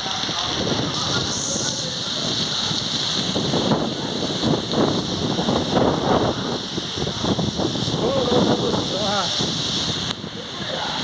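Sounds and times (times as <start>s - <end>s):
heavy rain pouring: 0.0s - 11.0s
wind noise on microphone: 0.0s - 11.0s.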